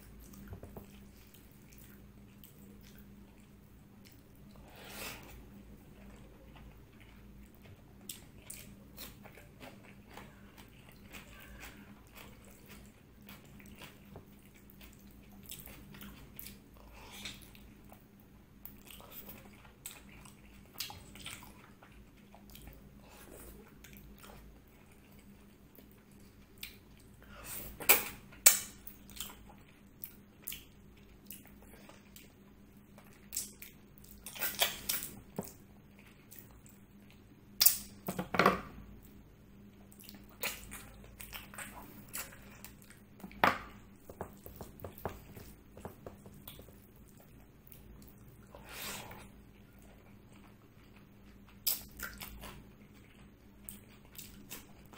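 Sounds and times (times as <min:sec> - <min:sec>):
person chewing food: 0:00.0 - 0:37.8, 0:39.0 - 0:54.9.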